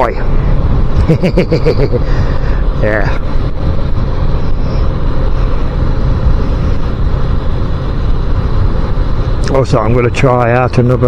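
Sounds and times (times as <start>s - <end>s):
motorcycle engine drone: 0.0s - 11.0s
wind buffeting microphone: 0.0s - 11.0s.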